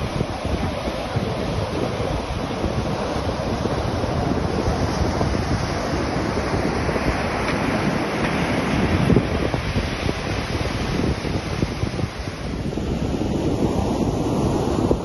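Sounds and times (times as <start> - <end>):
surf washing over sand: 0.0 - 15.0
wind on microphone: 0.0 - 15.0.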